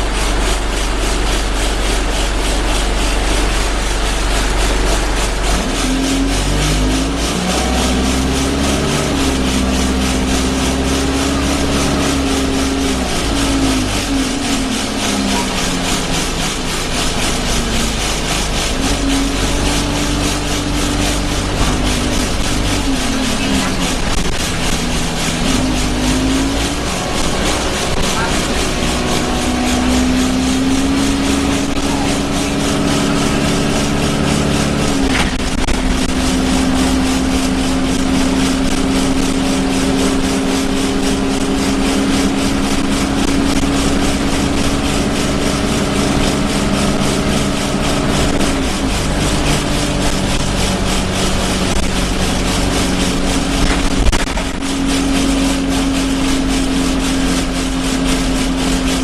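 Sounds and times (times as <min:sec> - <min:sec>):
bus engine drone: 0:00.0 - 0:59.0
constant rumble: 0:00.0 - 0:59.0
droning vibration through bus body: 0:00.0 - 0:59.0.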